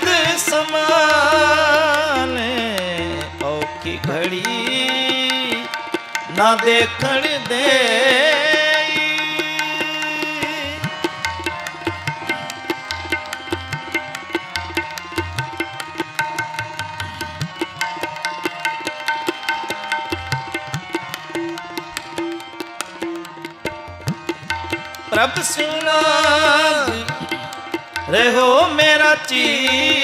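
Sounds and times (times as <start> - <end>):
harmonium melody: 0.0 - 30.0
tabla rhythm: 0.0 - 30.0.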